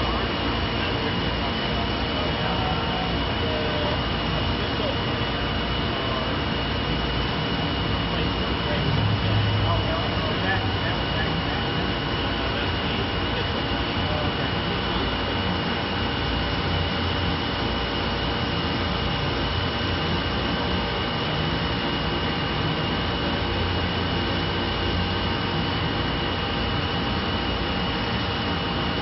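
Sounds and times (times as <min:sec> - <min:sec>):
high-pitched machine whine: 0:00.0 - 0:29.0.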